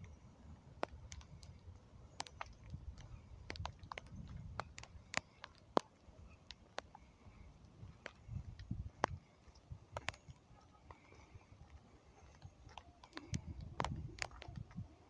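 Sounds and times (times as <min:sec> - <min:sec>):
wind buffeting microphone: 0:00.0 - 0:15.0
sharp ticks and taps: 0:00.8 - 0:11.3, 0:12.2 - 0:14.9.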